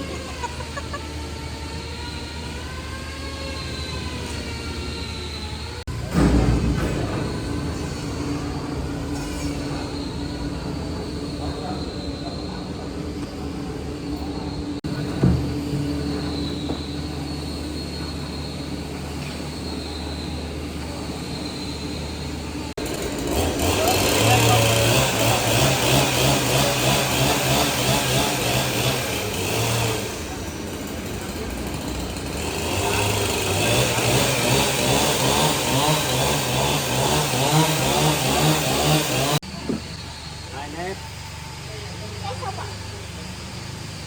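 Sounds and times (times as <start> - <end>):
engine running: 0.0 - 44.0
machine droning: 0.0 - 44.0.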